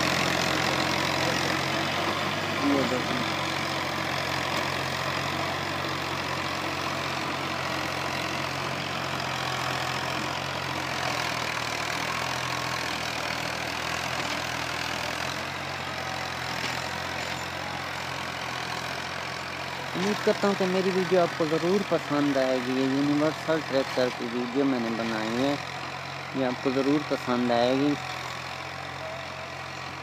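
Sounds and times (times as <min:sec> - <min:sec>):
rotary tiller churning soil: 0:00.0 - 0:30.0
tractor diesel engine running: 0:00.0 - 0:30.0.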